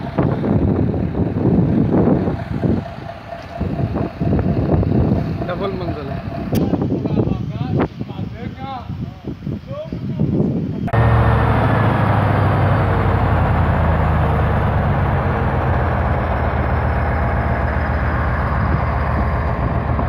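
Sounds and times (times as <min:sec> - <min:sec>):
diesel engine running: 0:00.0 - 0:06.9, 0:10.8 - 0:20.0.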